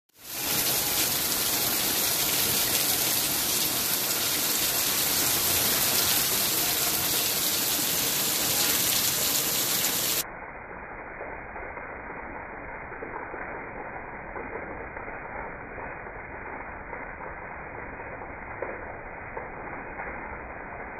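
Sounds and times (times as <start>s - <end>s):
heavy rain splashing on patio: 0.1s - 20.9s.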